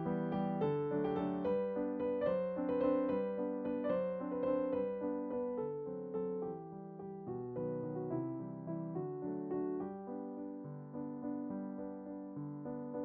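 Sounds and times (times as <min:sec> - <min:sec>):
piano keyboard music: 0:00.0 - 0:13.0.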